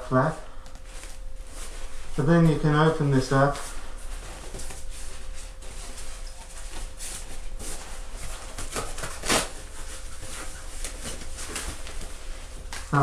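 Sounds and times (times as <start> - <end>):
fabric rustling and swishing: 0.8 - 2.7, 3.3 - 13.0.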